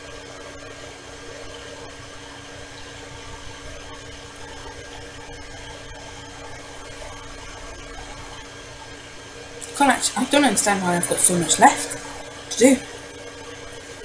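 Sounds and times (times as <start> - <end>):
appliance hum and hiss: 0.0 - 14.0.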